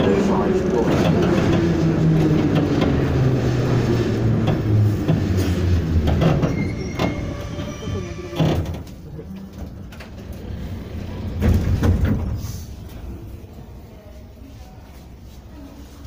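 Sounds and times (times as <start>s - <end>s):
subway car rumbling on rails: 0.0s - 16.0s.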